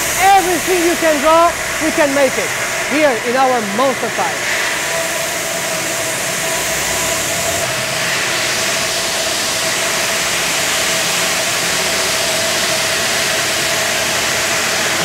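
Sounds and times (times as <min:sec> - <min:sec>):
factory machinery hiss: 0:00.0 - 0:15.0.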